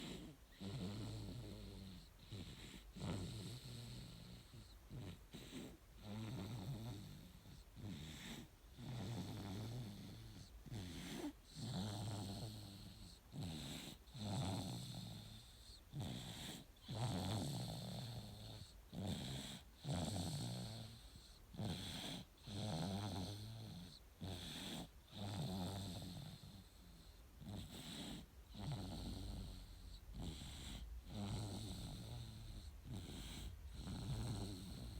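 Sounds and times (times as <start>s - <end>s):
baby snoring: 0.0s - 34.9s.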